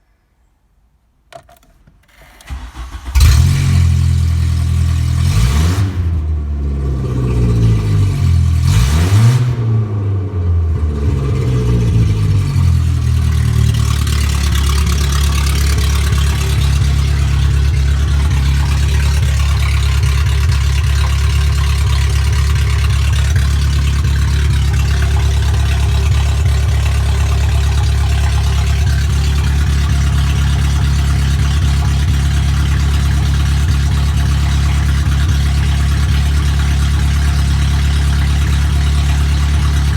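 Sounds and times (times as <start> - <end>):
engine cranking: 2.0 - 5.9, 11.1 - 39.9
car engine revving and idling: 2.5 - 39.9.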